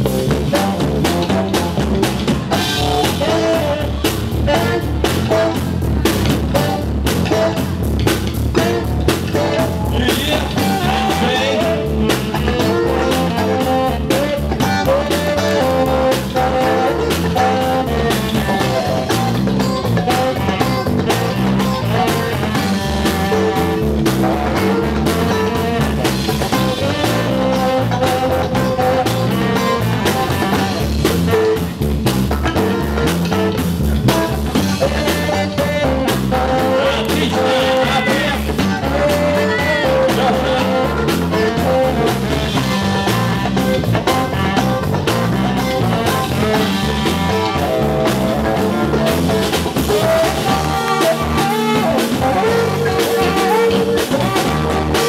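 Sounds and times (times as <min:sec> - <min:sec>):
drum kit: 0:00.0 - 0:55.0
electric guitar: 0:00.0 - 0:55.0
funk band playing: 0:00.0 - 0:55.0.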